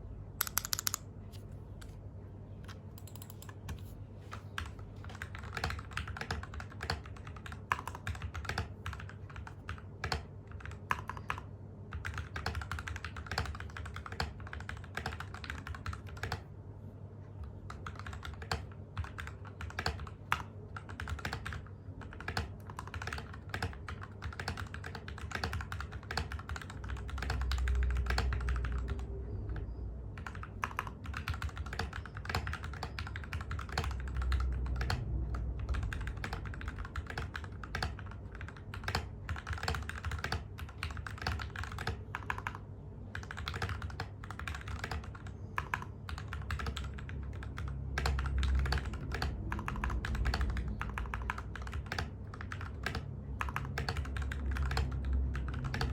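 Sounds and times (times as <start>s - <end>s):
fast typing on mechanical keyboard: 0.4s - 1.0s, 2.7s - 16.5s, 17.6s - 55.9s.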